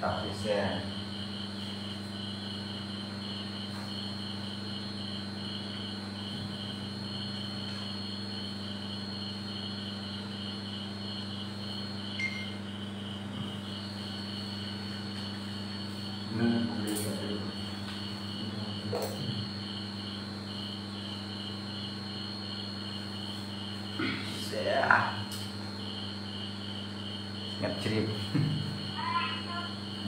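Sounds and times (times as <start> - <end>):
insect chirping in pulses: 0.0 - 30.0
steady high whine: 0.0 - 30.0.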